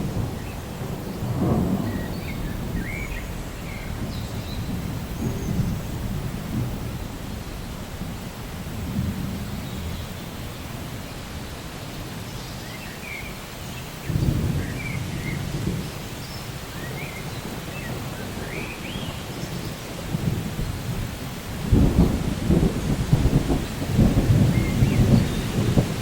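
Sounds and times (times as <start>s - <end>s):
low rolling thunder: 0.0s - 11.6s, 14.0s - 26.0s
steady rain: 0.0s - 26.0s.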